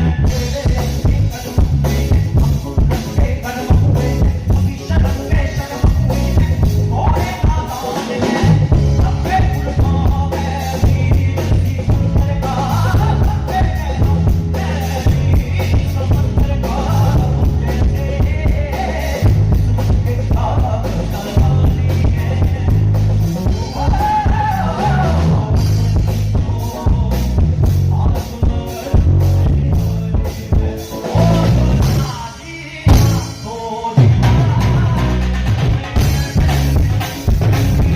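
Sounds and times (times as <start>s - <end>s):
live band playing: 0.0s - 37.9s
person singing: 0.0s - 37.9s.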